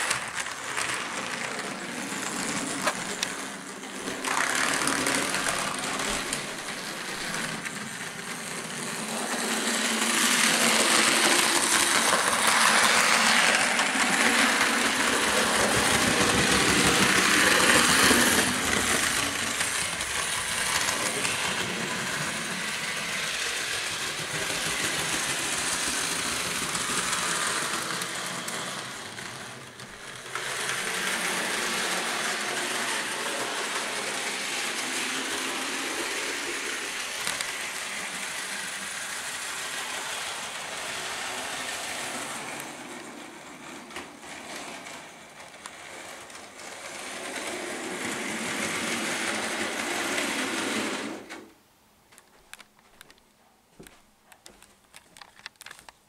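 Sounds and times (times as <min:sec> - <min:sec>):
toy train running on track: 0:00.0 - 0:51.5, 0:54.9 - 0:55.9.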